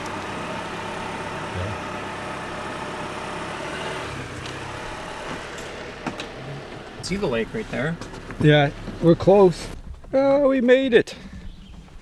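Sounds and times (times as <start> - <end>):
car engine running at low speed: 0.0 - 12.0.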